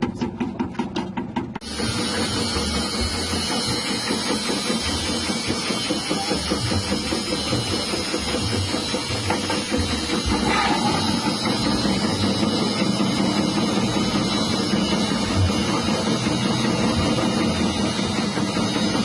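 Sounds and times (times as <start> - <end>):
music with drum beat: 0.0 - 19.0
slicing machine motor running: 1.6 - 19.0.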